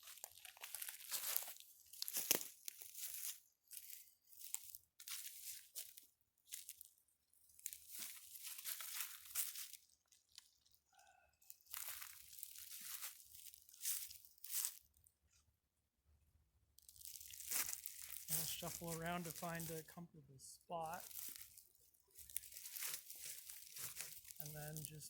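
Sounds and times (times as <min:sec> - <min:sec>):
rustling and crunching on ground: 0:00.0 - 0:15.5, 0:16.8 - 0:25.0.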